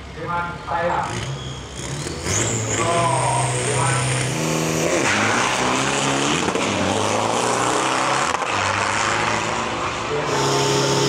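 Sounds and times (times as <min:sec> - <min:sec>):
truck engines running hard: 0:00.0 - 0:11.0.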